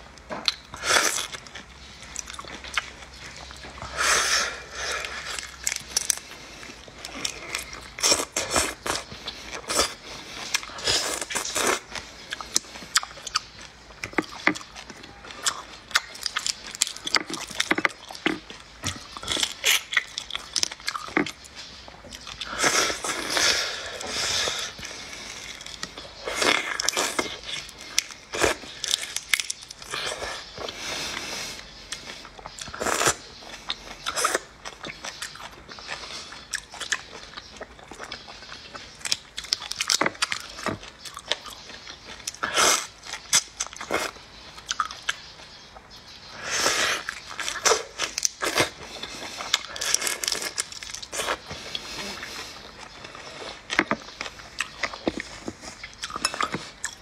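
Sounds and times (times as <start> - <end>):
sucking and chewing: 0.0 - 57.0
crackly bites: 4.8 - 30.8, 31.9 - 46.0, 46.6 - 57.0.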